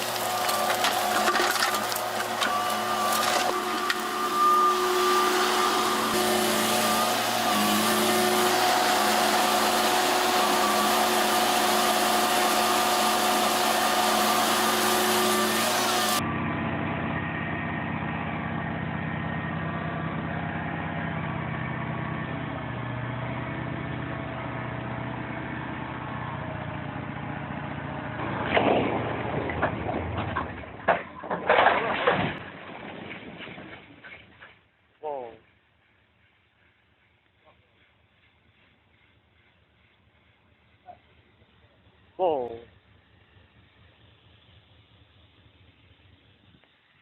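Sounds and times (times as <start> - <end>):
vehicle engines running: 0.0 - 47.0
low engine drone: 1.9 - 31.3, 38.4 - 47.0.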